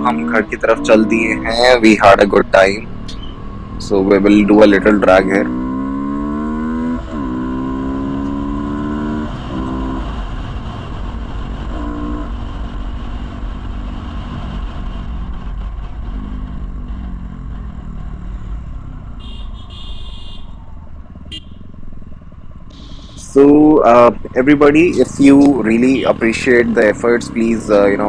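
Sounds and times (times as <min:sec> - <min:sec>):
motorcycle accelerating: 0:00.0 - 0:28.0.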